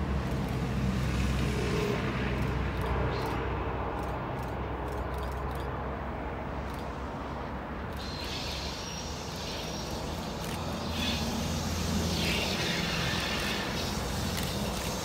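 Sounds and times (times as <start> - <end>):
hiss of wheels on rails: 0.0 - 4.6, 6.4 - 15.0
locomotive engine drone: 0.0 - 15.0.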